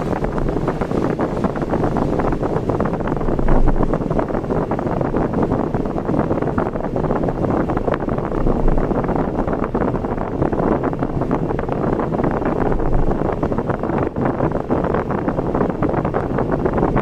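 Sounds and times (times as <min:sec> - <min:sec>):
road noise rumble: 0:00.0 - 0:17.0
wind buffeting microphone: 0:00.0 - 0:17.0.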